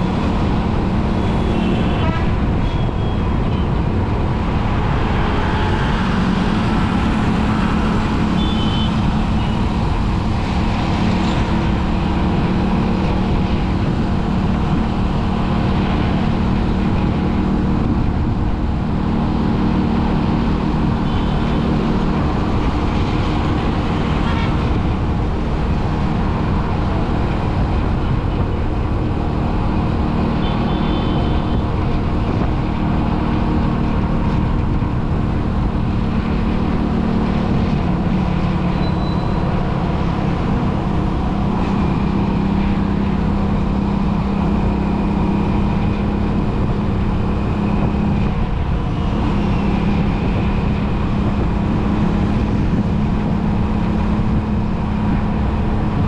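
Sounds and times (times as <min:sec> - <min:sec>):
vehicle engine hum and road noise: 0:00.0 - 0:56.0.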